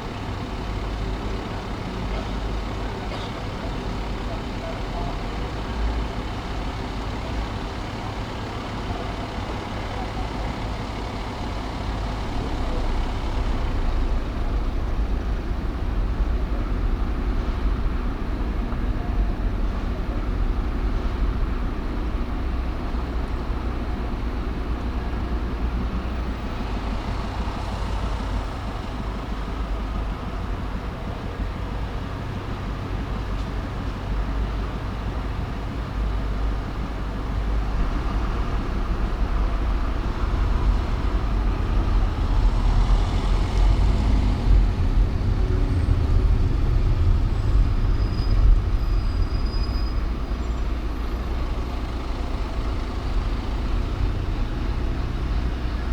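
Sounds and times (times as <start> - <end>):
car engine and tyre noise: 0.0 - 55.9.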